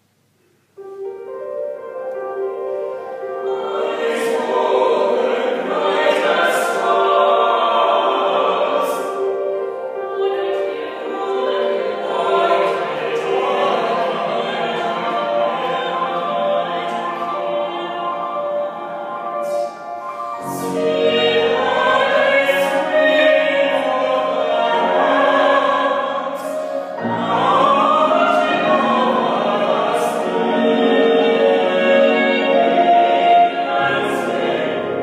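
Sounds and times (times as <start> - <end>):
choir singing in harmony: 0.8 - 35.0.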